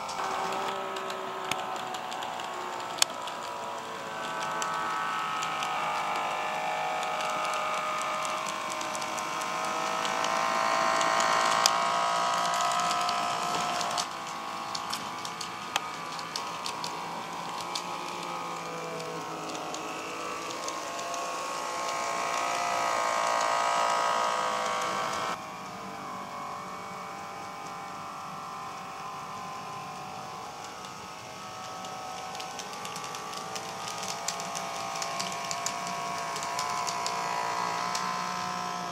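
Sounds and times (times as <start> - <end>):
model train motor whine: 0.0 - 38.9
wheels clicking on track: 0.0 - 38.9.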